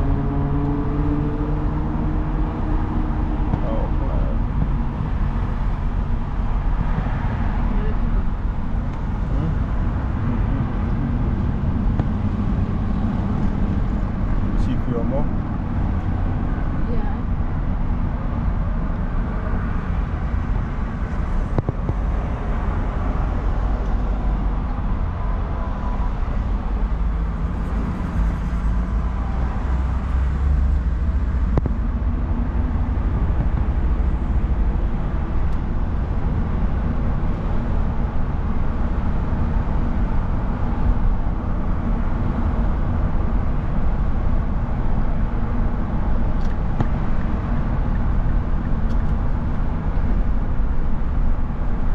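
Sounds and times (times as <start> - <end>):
car engine rumble: 0.0 - 51.9
tyres on highway: 0.0 - 51.9.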